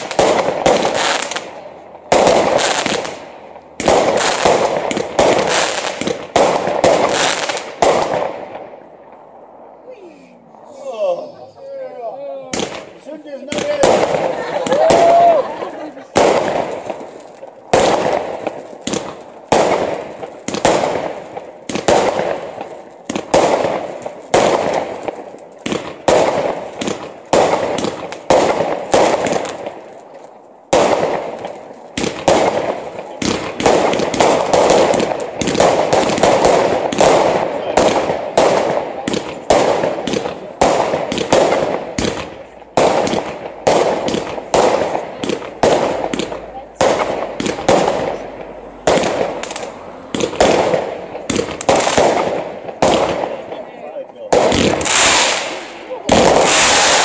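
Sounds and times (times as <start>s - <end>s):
fireworks bangs with crackle: 0.0s - 10.8s, 11.4s - 57.0s.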